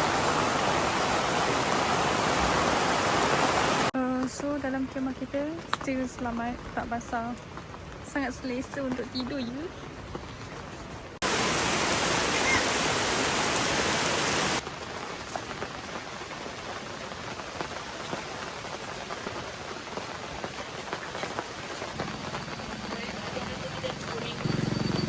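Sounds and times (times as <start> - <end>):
heavy rain falling: 0.0 - 24.4.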